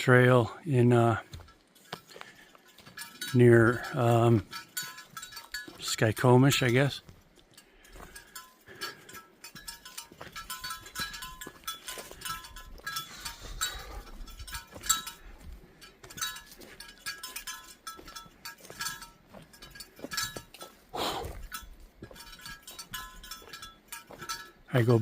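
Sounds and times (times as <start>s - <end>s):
metal jingling with steps: 0.0s - 25.0s
rustle: 0.0s - 25.0s.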